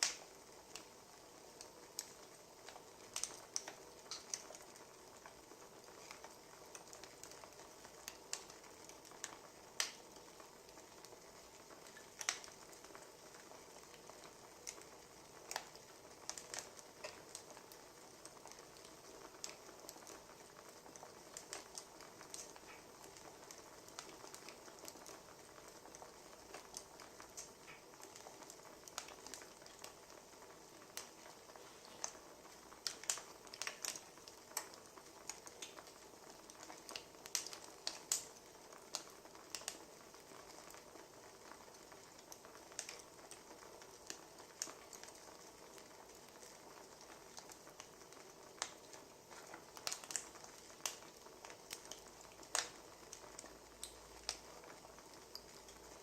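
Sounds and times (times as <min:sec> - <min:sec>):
wood fire crackling and snapping: 0:00.0 - 0:56.0.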